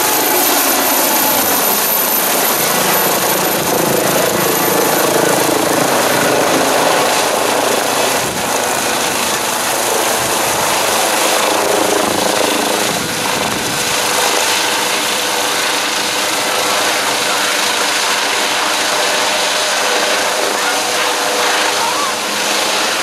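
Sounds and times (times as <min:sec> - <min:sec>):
helicopter flying overhead: 0:00.0 - 0:23.0.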